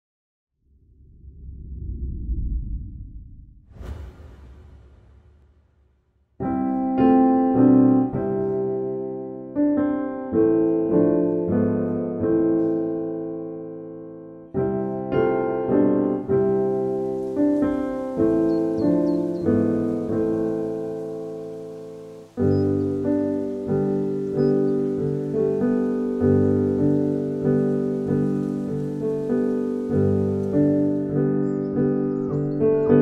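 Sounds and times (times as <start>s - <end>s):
piano music: 6.4s - 33.0s.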